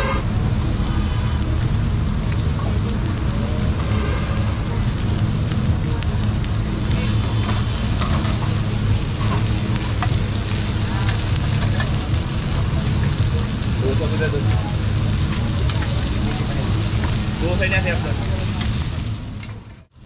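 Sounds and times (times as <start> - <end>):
low rumble: 0.0 - 19.8
meat sizzling on hot plate: 0.0 - 20.0.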